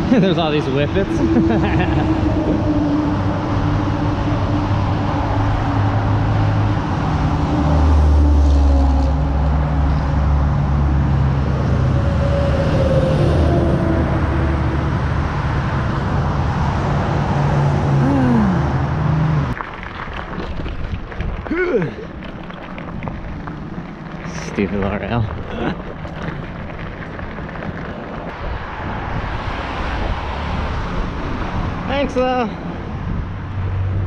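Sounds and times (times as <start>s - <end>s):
highway traffic rushing: 0.0s - 34.0s.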